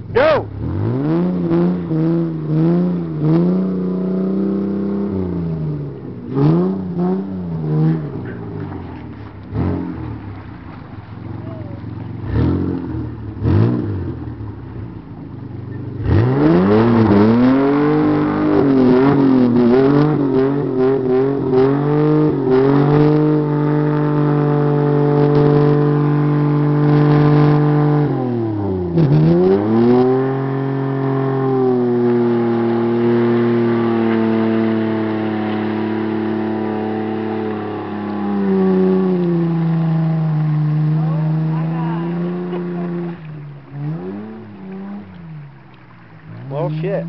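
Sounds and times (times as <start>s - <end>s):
pickup engine revving hard: 0.2s - 8.7s, 12.2s - 14.2s, 16.0s - 45.2s.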